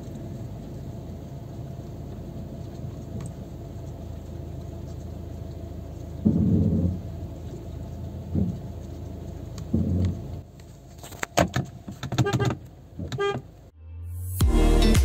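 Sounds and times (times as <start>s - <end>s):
car rumbling: 0.0s - 15.0s.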